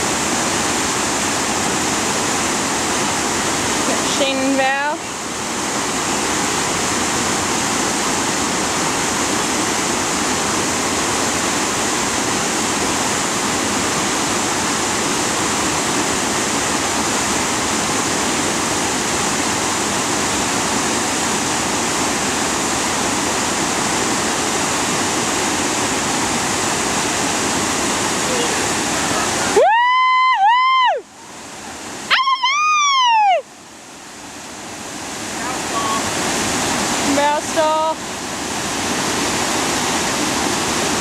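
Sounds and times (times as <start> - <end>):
whitewater pouring over waterfall: 0.0 - 41.0.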